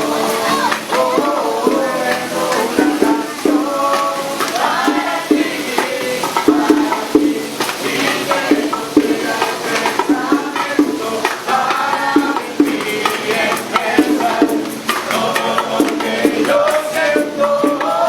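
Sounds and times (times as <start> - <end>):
person singing: 0.0 - 18.0
rhythmic percussion: 0.0 - 18.0.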